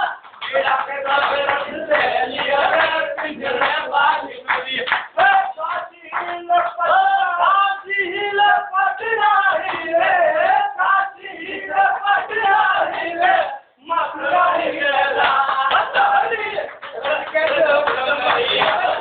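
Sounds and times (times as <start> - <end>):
man singing: 0.0 - 19.0.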